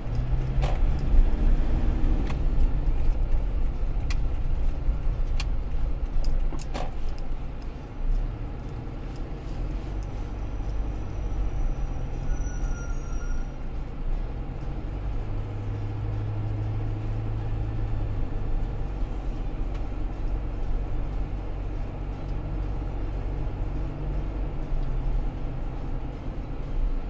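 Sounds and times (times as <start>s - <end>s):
tyre noise on road: 0.0s - 27.0s
vehicle engine hum: 0.0s - 27.0s.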